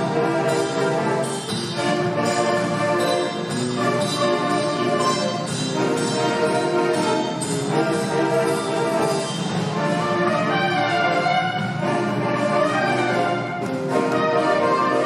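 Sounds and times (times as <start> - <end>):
saxophone ensemble playing chords: 0.0 - 15.0.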